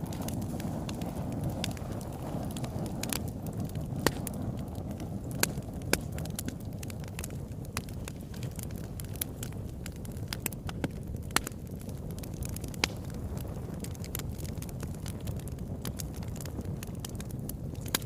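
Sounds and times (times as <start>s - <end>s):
fire crackling: 0.0s - 18.0s
wood fire burning: 0.0s - 18.0s.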